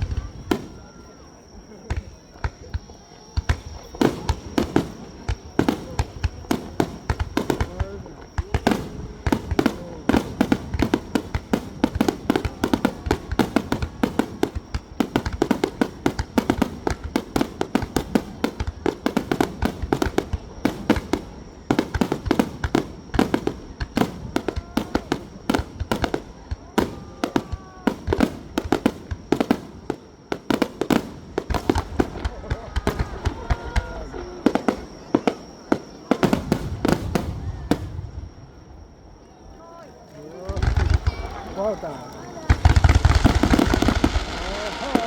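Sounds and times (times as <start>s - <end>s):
deep firework booms: 0.0s - 1.1s, 1.8s - 38.8s, 40.4s - 45.0s
fireworks sharp bangs: 0.0s - 38.7s, 40.4s - 45.0s.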